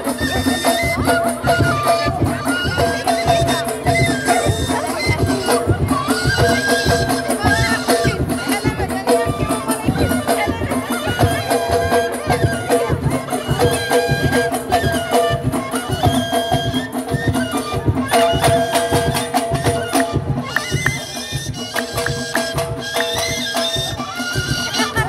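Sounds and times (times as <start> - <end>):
folk music melody over low beat: 0.0 - 25.0.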